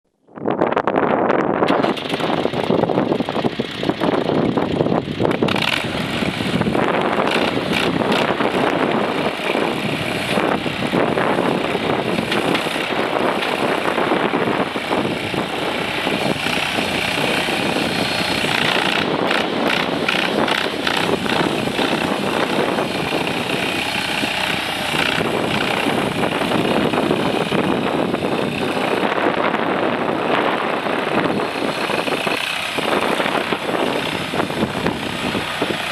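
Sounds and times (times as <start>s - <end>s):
small engine running: 1.2s - 35.9s
bursts of clatter: 1.6s - 35.9s.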